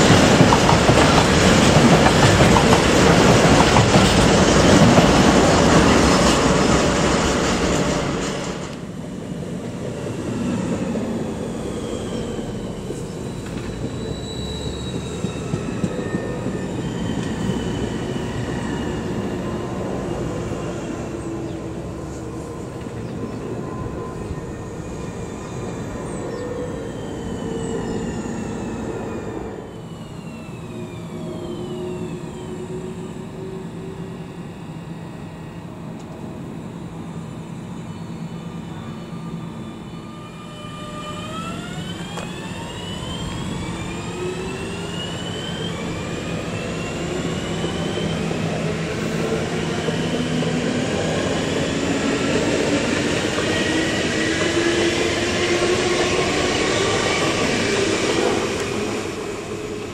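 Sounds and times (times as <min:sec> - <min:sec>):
train steady low hum: 0:00.0 - 0:59.9
train traction motor whine: 0:00.0 - 0:59.9.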